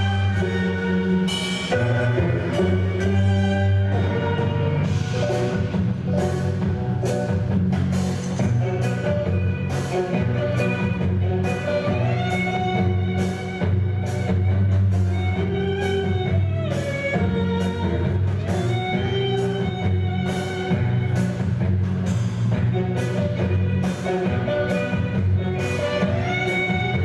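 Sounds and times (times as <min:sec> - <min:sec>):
heavy bass: 0:00.0 - 0:27.0
steady drum beat: 0:00.0 - 0:27.0.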